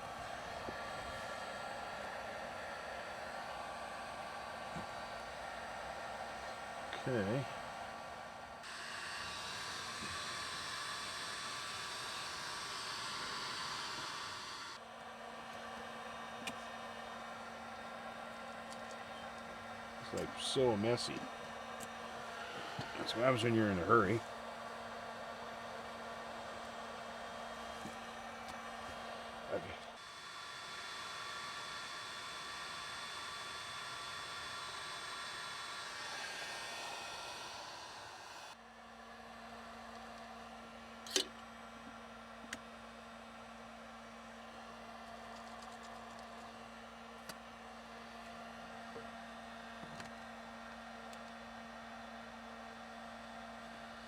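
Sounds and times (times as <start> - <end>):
electric blower motor running: 0.0 - 54.0.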